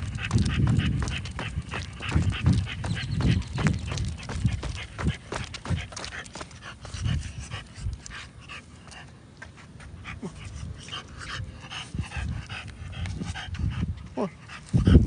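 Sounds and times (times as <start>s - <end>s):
dog panting and sniffing: 0.0s - 15.0s.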